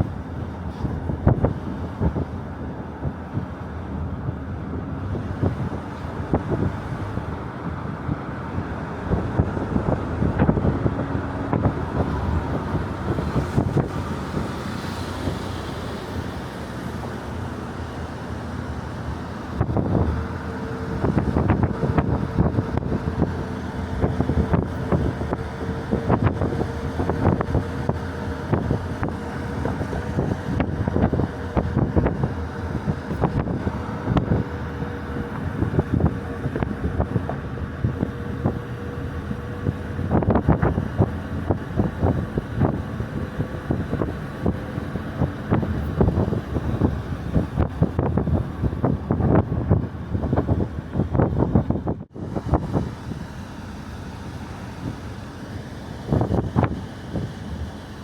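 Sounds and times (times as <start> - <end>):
motor vehicle running: 0.0 - 58.0
steady hum: 0.0 - 58.0
wind buffeting microphone: 0.0 - 58.0.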